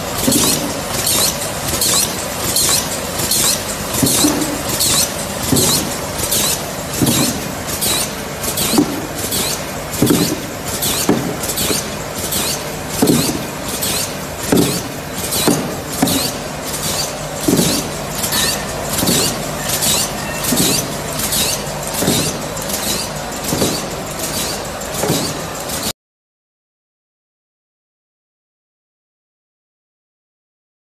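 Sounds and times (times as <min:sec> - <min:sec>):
machine hum: 0:00.0 - 0:25.9
machine thumping: 0:00.1 - 0:25.8.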